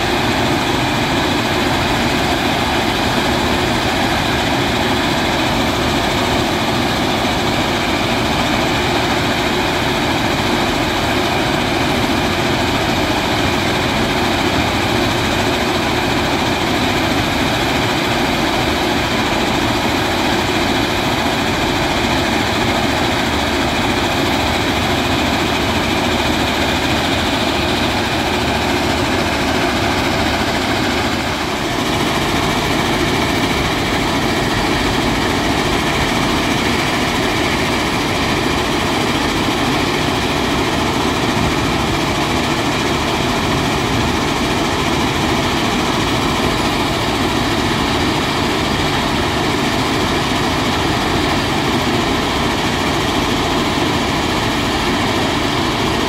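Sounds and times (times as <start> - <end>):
machinery engines din: 0.0 - 56.0.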